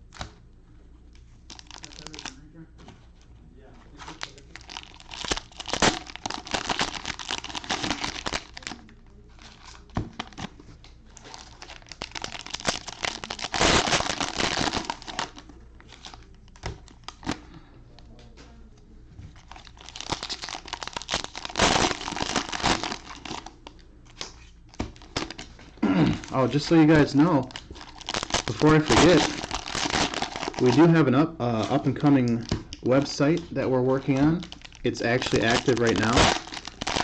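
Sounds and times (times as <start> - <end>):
cellophane wrappers crinkling: 1.2 - 2.4, 3.9 - 17.4, 19.3 - 37.0
rustling of packs and cards: 1.2 - 18.6, 19.2 - 37.0.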